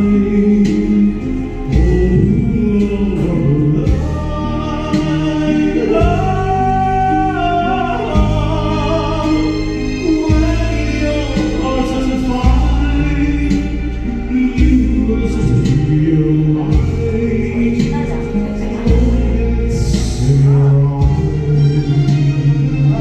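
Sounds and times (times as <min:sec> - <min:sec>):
karaoke backing music: 0:00.0 - 0:23.0
person singing karaoke: 0:00.0 - 0:23.0.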